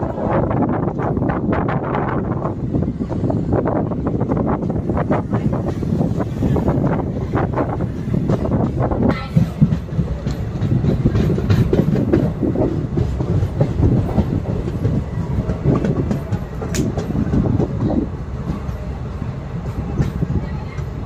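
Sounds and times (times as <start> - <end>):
train wheels rumbling and clacking: 0.0 - 21.0.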